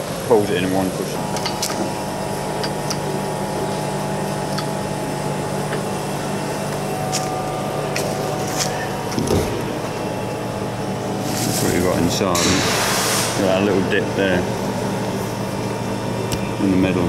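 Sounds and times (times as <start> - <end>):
workshop machinery humming: 0.0 - 17.0.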